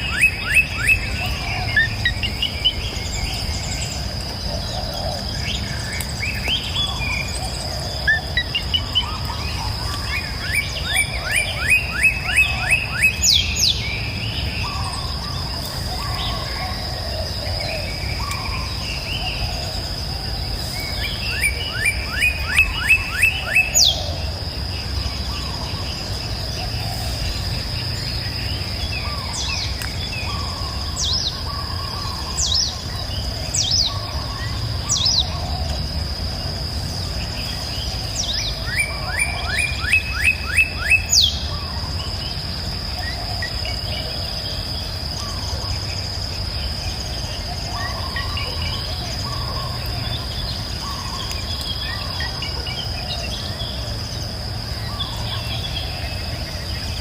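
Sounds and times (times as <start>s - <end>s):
songbirds calling: 0.0s - 57.0s.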